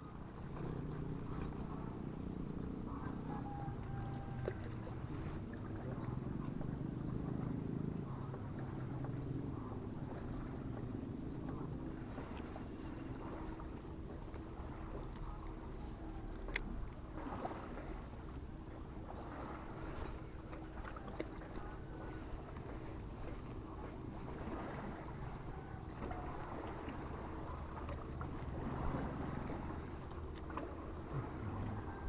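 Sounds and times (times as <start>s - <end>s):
distant motorboat engine hum: 0.0s - 32.0s.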